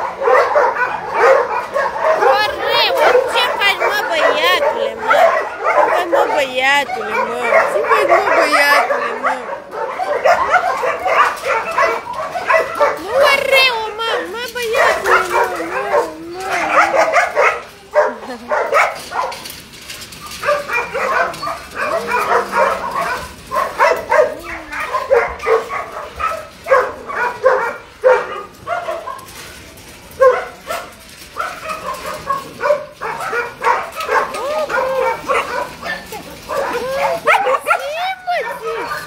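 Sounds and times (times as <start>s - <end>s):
dogs whining: 0.0s - 29.5s, 30.1s - 39.0s
dogs barking: 0.0s - 39.0s.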